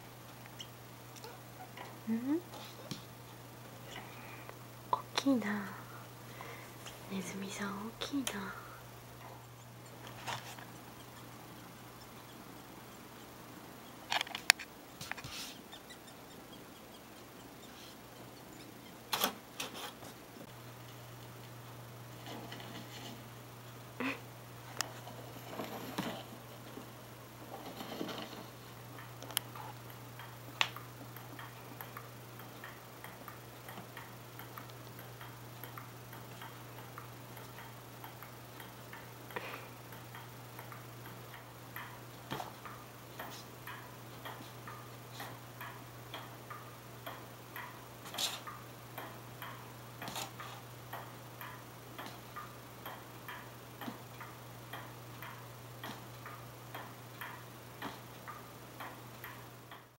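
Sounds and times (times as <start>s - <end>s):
regular ticking: 0.0s - 19.6s, 25.6s - 59.9s.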